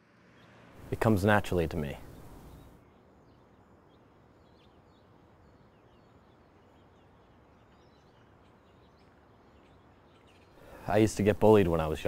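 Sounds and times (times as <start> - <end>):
low background hum: 0.0 - 12.0
small birds chirping: 0.1 - 12.0.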